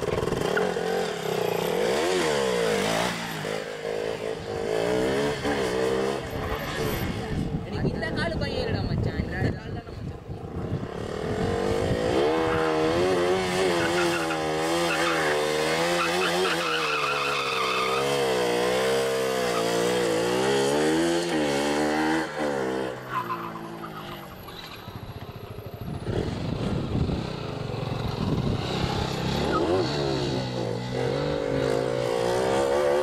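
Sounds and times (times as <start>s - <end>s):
motorbike engine revving: 0.0s - 7.6s, 10.5s - 33.0s.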